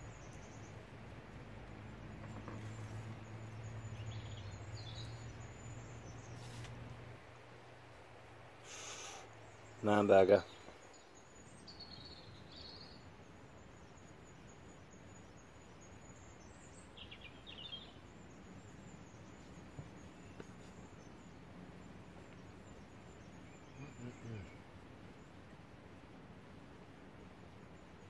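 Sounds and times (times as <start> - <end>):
faint background hiss: 0.0 - 28.0.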